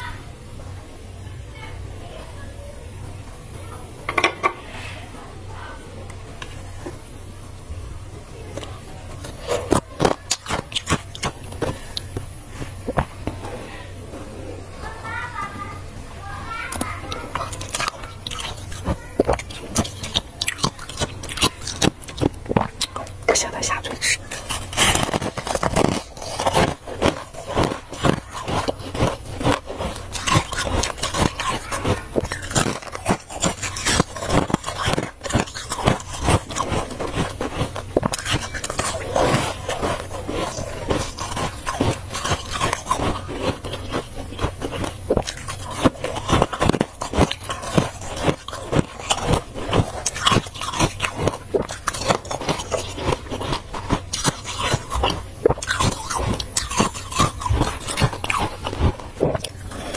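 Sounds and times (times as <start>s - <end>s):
person chewing crunchy frost: 5.6s - 59.9s.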